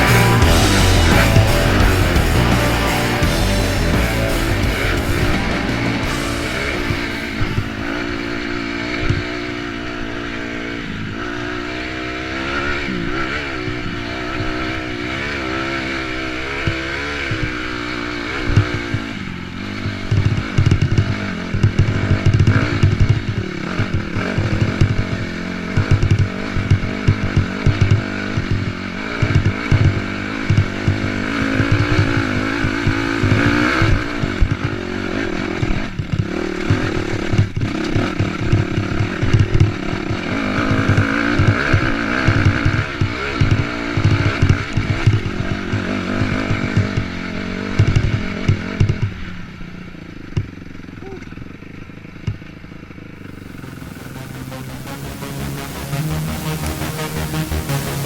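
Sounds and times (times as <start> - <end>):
dirt bike engine revving: 0.0 - 49.4, 53.2 - 58.0.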